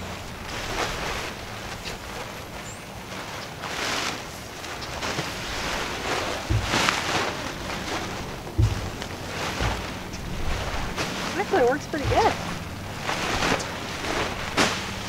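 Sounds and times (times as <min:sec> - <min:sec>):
inflatable chair rustling and whooshing: 0:00.0 - 0:15.0
wind buffeting microphone: 0:00.0 - 0:15.0.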